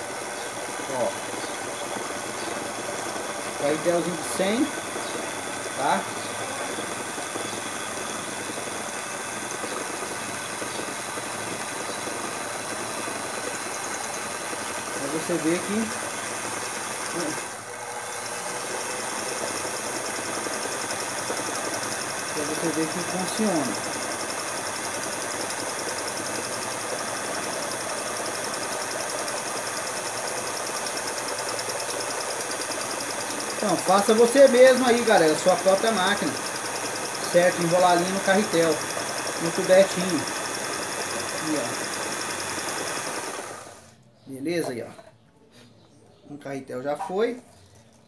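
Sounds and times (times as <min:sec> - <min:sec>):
small electric motor running: 0:00.0 - 0:44.0.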